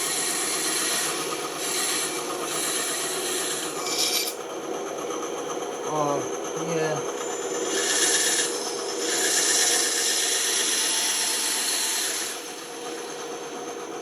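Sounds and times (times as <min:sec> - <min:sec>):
band saw cutting wood: 0:00.0 - 0:04.6, 0:05.9 - 0:14.0
band saw running idle: 0:00.0 - 0:14.0.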